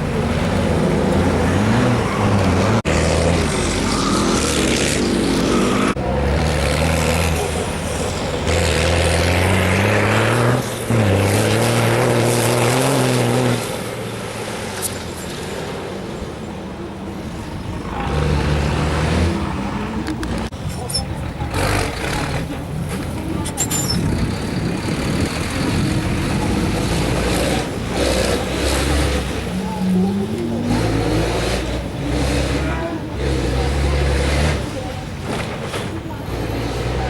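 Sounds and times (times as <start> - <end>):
truck engine revving under load: 0.0 - 37.0.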